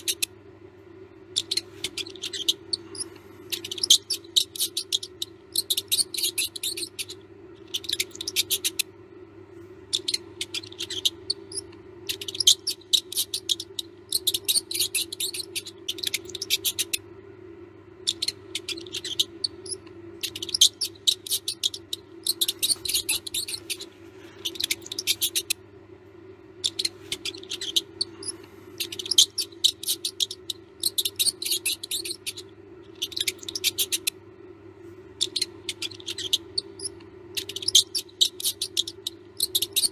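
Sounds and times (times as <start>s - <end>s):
mouse squeaking: 0.0s - 0.4s, 1.2s - 9.0s, 9.8s - 17.2s, 18.0s - 25.6s, 26.5s - 34.2s, 35.2s - 39.9s
steady low hum: 0.0s - 39.9s.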